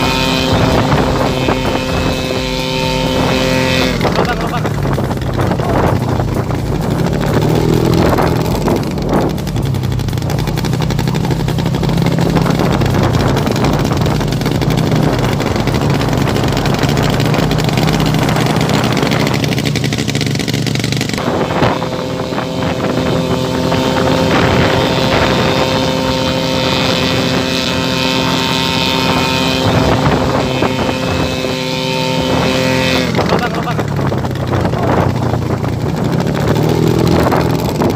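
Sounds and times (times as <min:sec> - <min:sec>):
aircraft engine droning: 0:00.0 - 0:37.9
high steady whine: 0:00.0 - 0:37.9.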